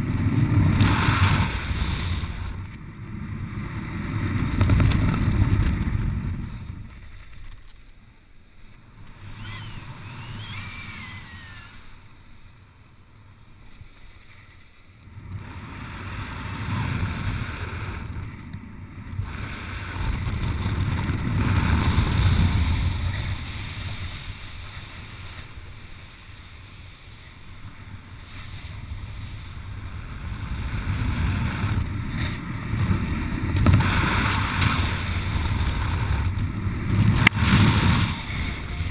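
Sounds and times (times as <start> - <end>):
wind buffeting microphone: 0.0 - 7.7, 8.9 - 38.9.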